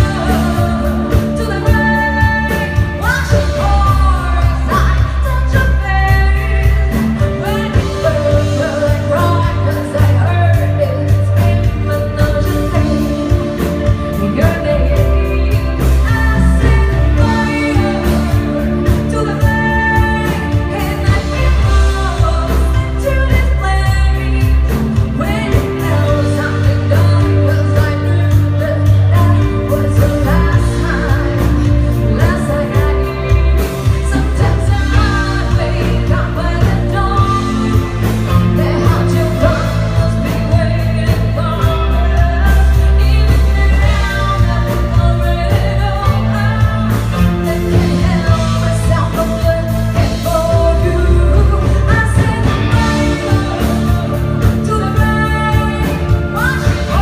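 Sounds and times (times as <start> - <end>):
band accompaniment: 0.0 - 57.0
person singing pop song: 0.0 - 57.0.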